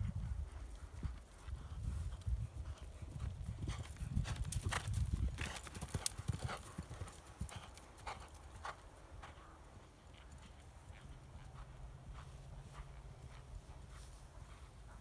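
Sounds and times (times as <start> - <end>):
horse hoofbeats on turf: 0.0 - 15.0.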